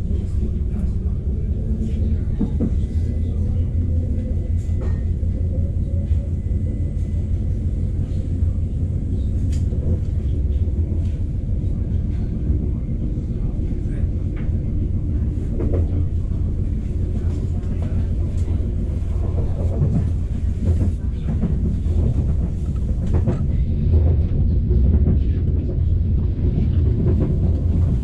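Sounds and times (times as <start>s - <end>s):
train carriage rumble: 0.0s - 28.0s.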